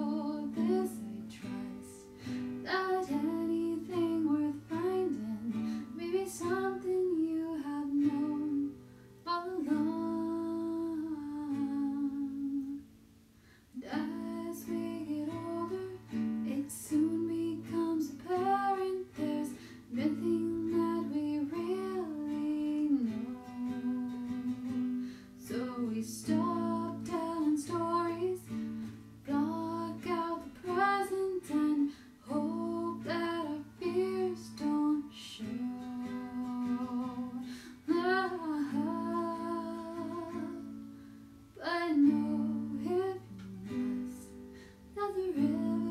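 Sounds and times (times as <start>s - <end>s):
acoustic guitar: 0.0s - 45.9s.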